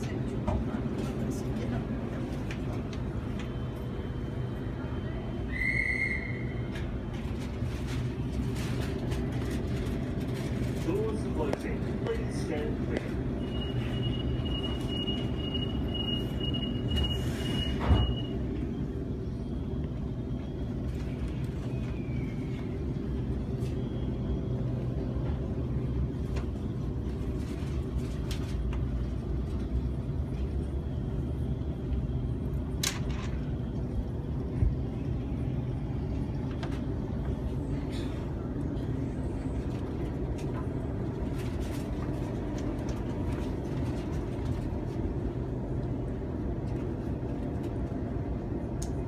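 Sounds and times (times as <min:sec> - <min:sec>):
train carriage running rumble: 0:00.0 - 0:49.0.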